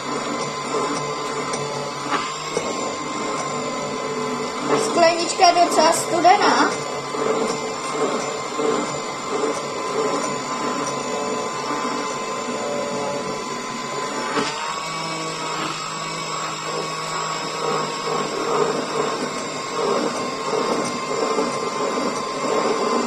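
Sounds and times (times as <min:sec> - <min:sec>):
stick blender running: 0:00.0 - 0:23.0.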